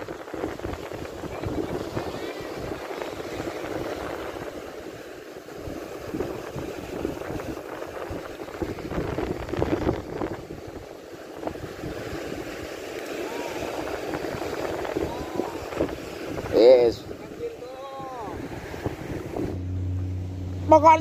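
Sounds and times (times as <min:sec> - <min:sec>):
sea waves washing: 0:00.0 - 0:21.0
wind buffeting microphone: 0:00.0 - 0:21.0.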